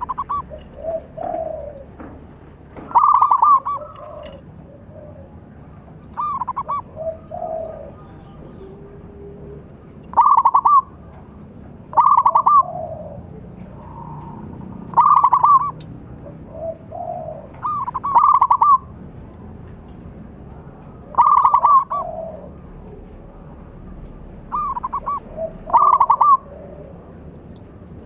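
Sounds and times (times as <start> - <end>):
soft low dove coos: 0.0 - 2.0, 2.9 - 11.0, 11.9 - 19.0, 20.4 - 28.0
dove rolling coo: 0.0 - 11.1, 11.7 - 19.5, 20.4 - 28.0.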